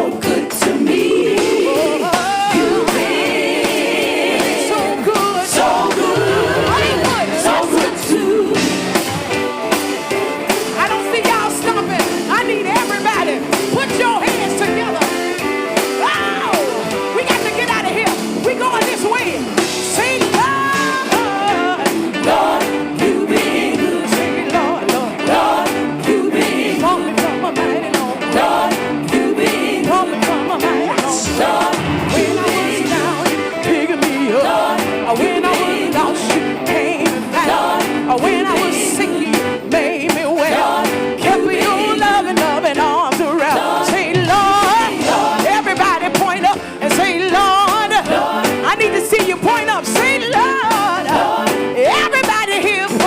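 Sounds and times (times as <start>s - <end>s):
gospel band playing: 0.0s - 53.0s
steady drum beat: 0.0s - 53.0s.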